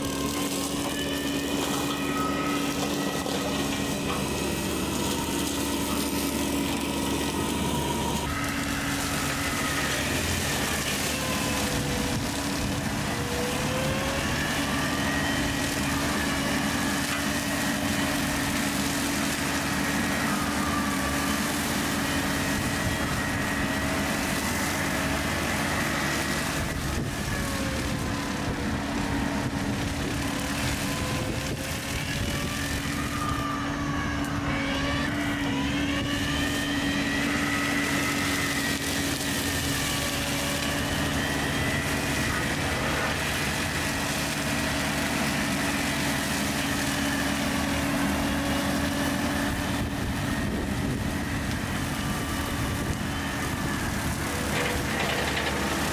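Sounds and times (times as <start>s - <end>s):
brush cutter whining: 0.0s - 55.9s
diesel engine under load: 0.0s - 55.9s.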